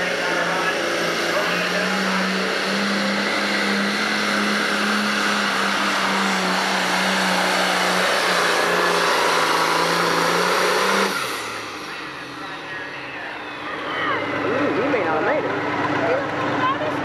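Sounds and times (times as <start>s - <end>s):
tractor diesel engine at full load: 0.0s - 17.0s.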